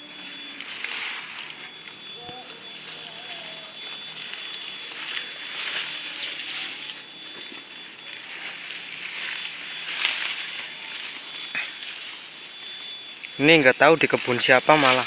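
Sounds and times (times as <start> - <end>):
rustling in dry leaves: 0.0 - 15.0.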